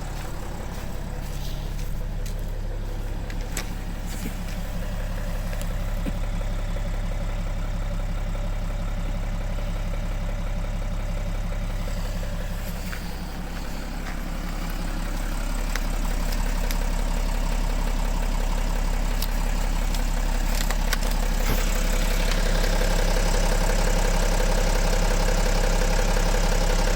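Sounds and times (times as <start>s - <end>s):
diesel engine idling with knock: 0.0s - 26.9s.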